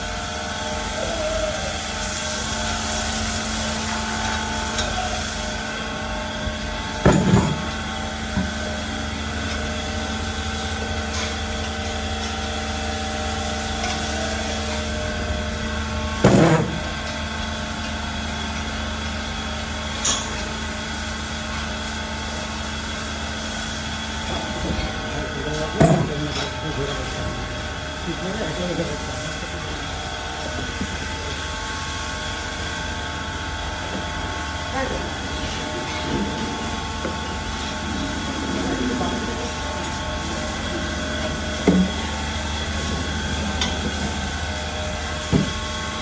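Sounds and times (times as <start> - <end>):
mechanical drone with low hum: 0.0 - 46.0.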